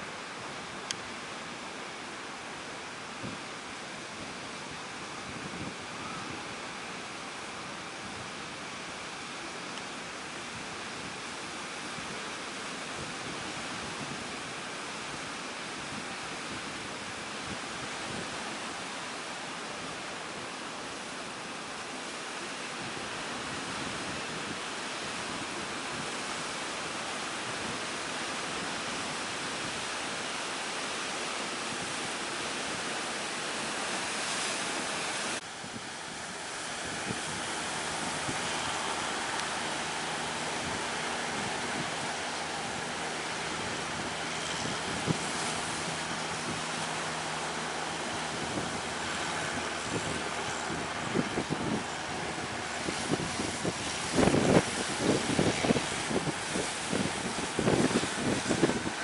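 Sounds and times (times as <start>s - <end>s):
ocean surf: 0.0s - 59.0s
wind on microphone: 3.1s - 59.0s.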